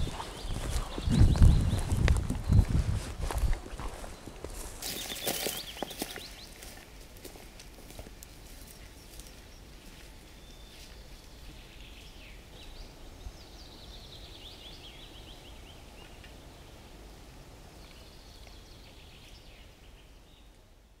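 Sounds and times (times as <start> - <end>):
songbirds singing: 0.0 - 20.7.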